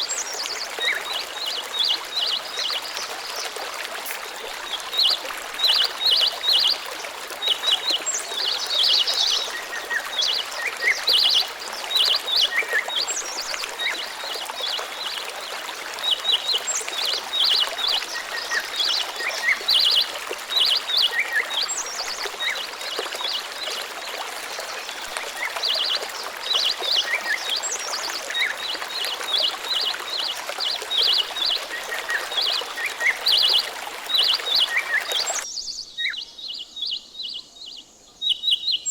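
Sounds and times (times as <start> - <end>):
flowing water rushing: 0.0 - 35.5
small birds chirping: 0.0 - 38.9.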